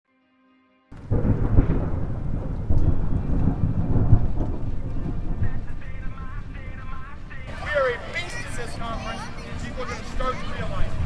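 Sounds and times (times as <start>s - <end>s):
thunder rumbling: 0.9s - 11.0s
rain: 1.0s - 11.0s.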